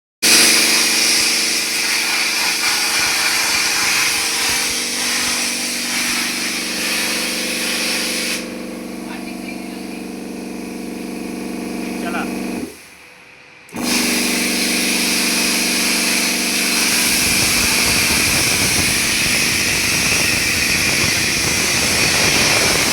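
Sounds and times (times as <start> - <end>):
plasma cutter arc hiss: 0.2 - 10.2, 13.7 - 22.9
machine hum: 0.3 - 22.9.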